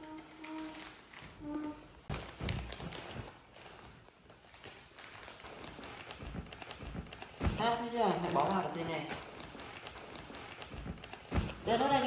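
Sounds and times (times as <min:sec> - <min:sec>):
plastic package crinkling: 0:00.0 - 0:12.0.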